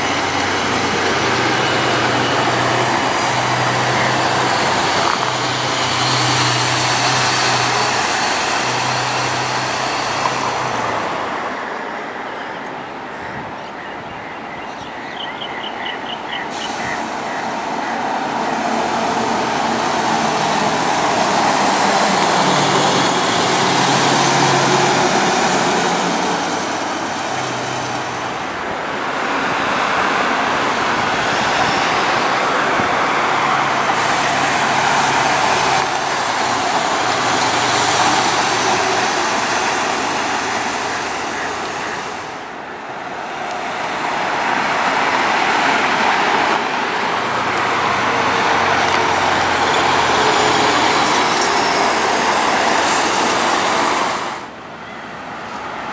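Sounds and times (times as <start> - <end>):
diesel buses driving past: 0.0 - 55.9
road and traffic noise: 0.0 - 55.9.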